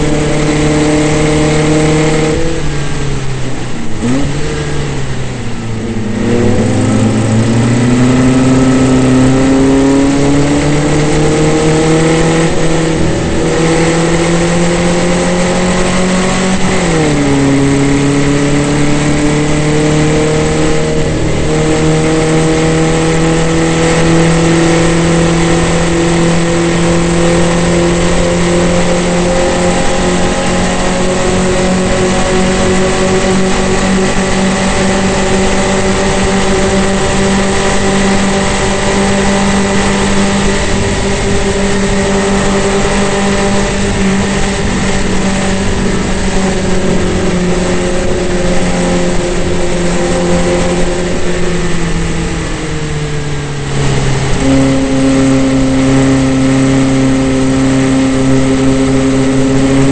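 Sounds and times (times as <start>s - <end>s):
racing car engine at full throttle: 0.0s - 59.9s
wind rush: 2.0s - 59.9s.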